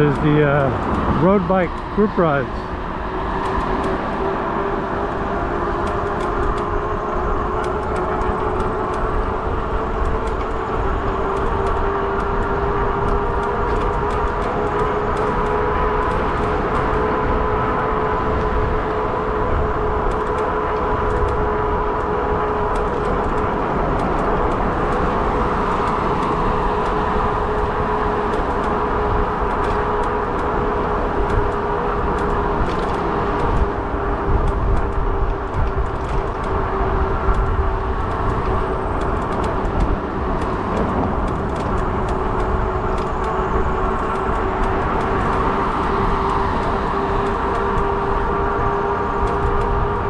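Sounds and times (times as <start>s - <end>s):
e-bike motor whine: 0.0s - 50.0s
wind rumble on microphone: 0.0s - 50.0s.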